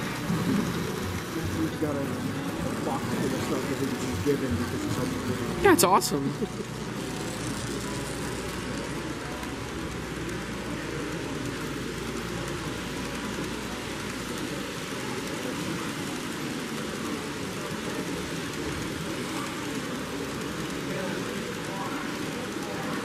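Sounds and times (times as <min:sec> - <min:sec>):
busy hall background din: 0:00.0 - 0:23.0
model train rolling on track: 0:00.0 - 0:23.0.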